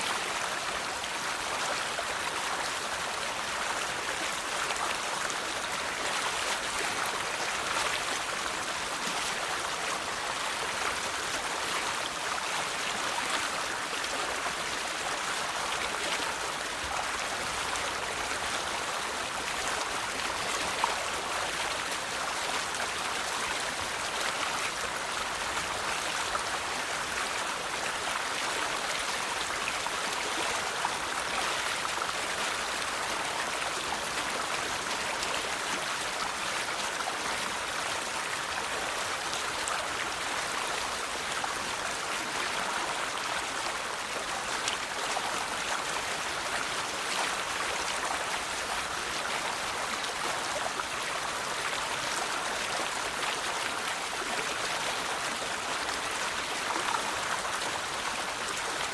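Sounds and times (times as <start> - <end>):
river water flowing over stones: 0.0 - 58.9.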